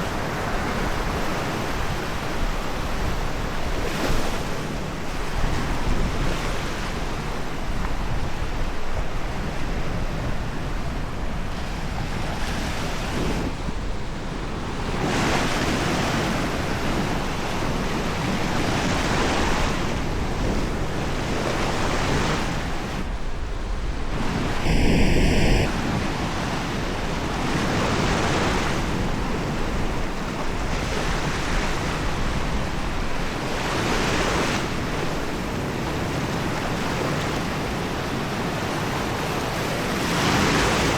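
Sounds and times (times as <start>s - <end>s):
waves breaking on beach: 0.0s - 40.9s
wind buffeting microphone: 0.0s - 40.9s.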